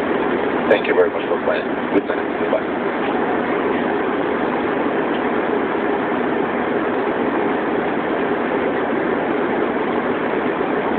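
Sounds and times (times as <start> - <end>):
jet airliner cabin noise: 0.0 - 10.9.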